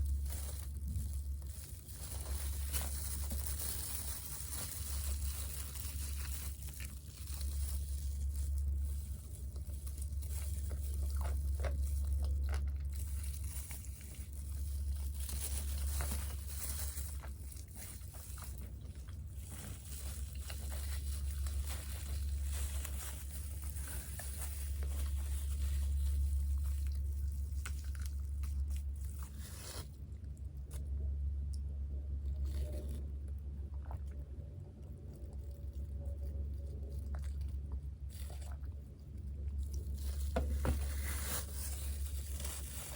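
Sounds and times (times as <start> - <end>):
person chewing crispy food: 0.0 - 42.9
steady low hum: 0.0 - 42.9.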